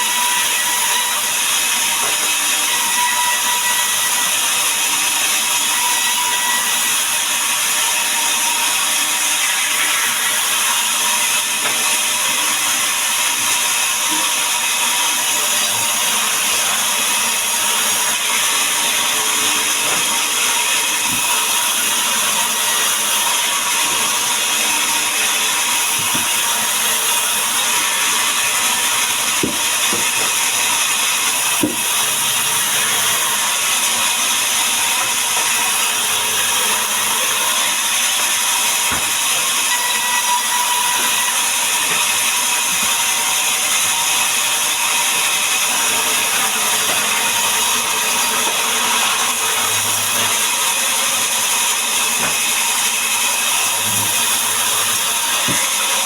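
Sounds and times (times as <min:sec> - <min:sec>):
woodworking power tool running: 0:00.0 - 0:56.0.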